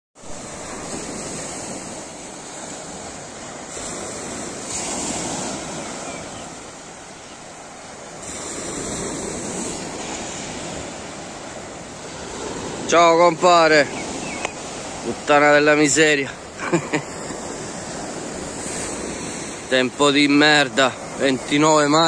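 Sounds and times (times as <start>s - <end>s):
sea surf breaking on beach: 0.2s - 22.0s.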